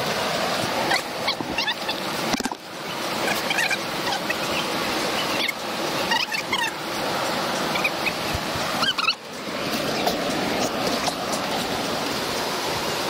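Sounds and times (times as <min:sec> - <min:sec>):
whitewater splashing against kayak: 0:00.0 - 0:13.0.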